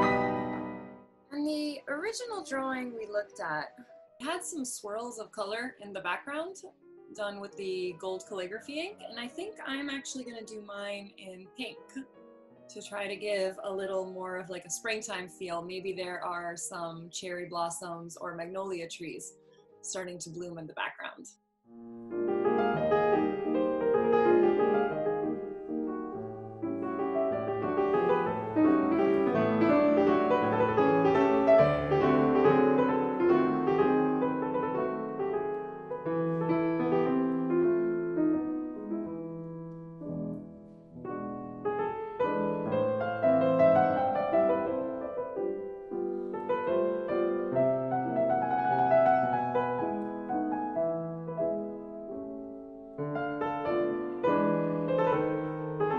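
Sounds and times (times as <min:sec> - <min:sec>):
flowing piano piece: 0:00.0 - 0:16.1, 0:21.7 - 0:55.9.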